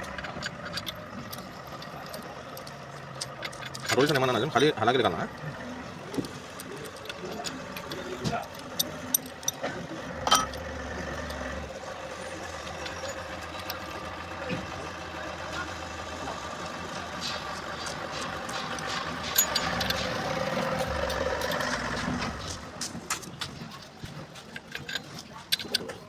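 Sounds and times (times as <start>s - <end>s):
motor humming: 0.0s - 22.8s.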